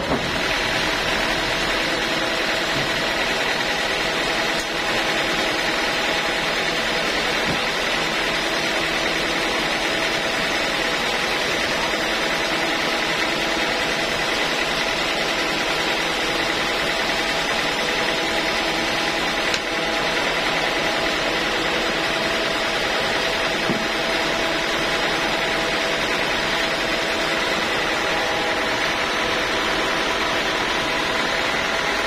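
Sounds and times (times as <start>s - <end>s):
sawmill machine drone: 0.0s - 32.0s.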